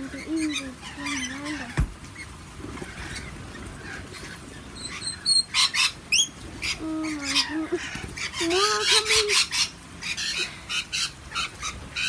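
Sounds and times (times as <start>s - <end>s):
parrots screeching and chattering: 0.0s - 12.0s.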